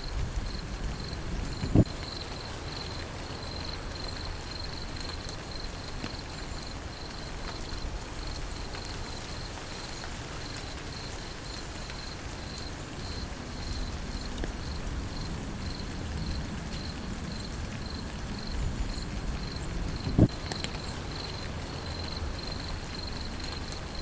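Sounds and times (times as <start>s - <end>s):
cricket chirping: 0.0s - 24.0s
steady rain falling: 0.0s - 24.0s.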